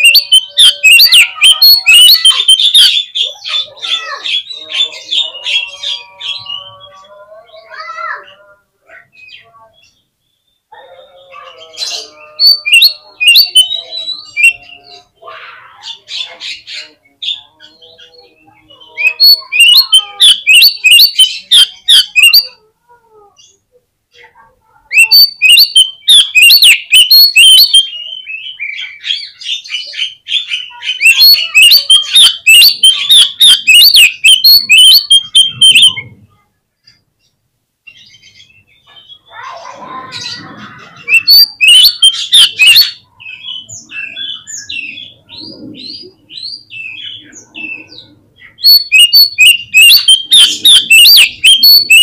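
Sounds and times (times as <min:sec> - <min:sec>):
magpie-robin singing: 0:00.0 - 0:22.6, 0:24.9 - 0:36.1, 0:40.1 - 0:52.0.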